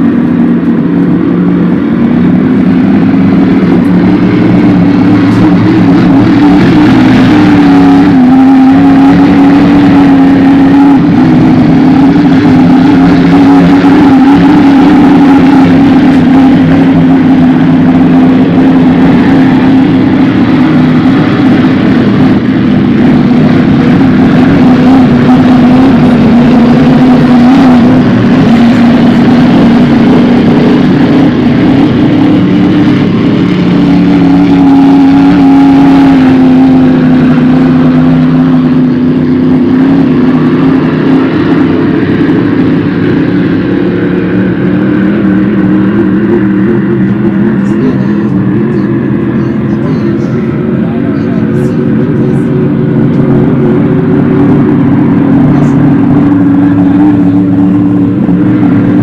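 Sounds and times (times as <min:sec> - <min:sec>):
racing boat engines droning: 0:00.0 - 0:59.0.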